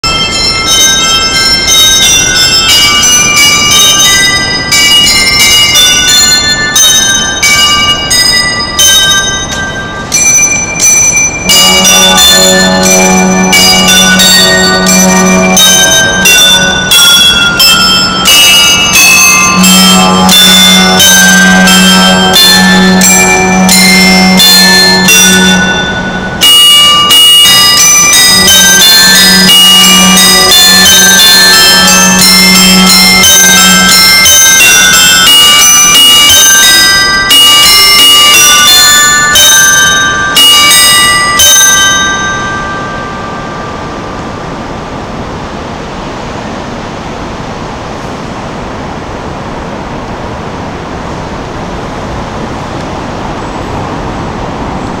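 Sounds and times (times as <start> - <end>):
clock bells chiming a melody: 0.0 - 45.0
low held accompaniment tone: 0.0 - 55.0.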